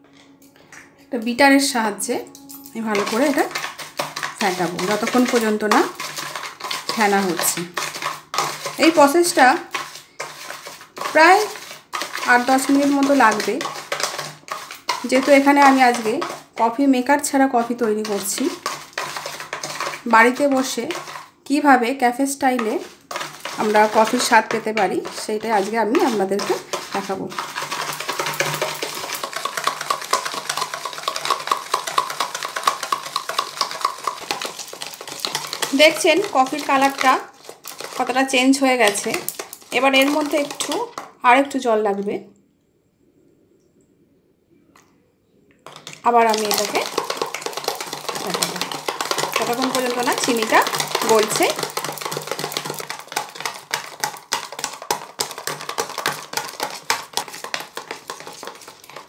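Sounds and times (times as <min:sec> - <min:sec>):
whisk clicking against bowl: 0:02.8 - 0:41.1, 0:45.6 - 0:59.0.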